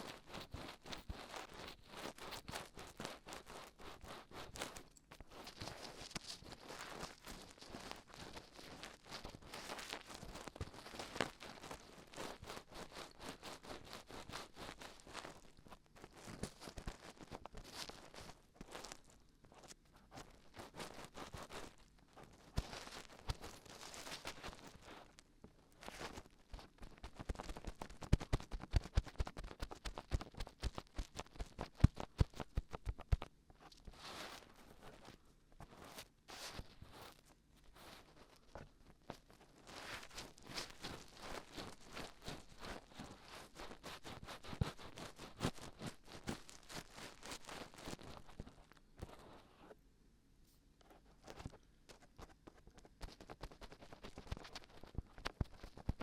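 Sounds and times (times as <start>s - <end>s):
soft rubbing rustle: 0.0s - 33.0s, 33.6s - 49.8s.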